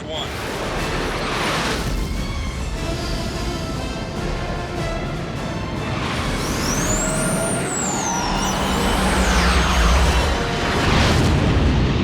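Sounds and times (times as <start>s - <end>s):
jet engine turbine whine: 0.0s - 12.0s.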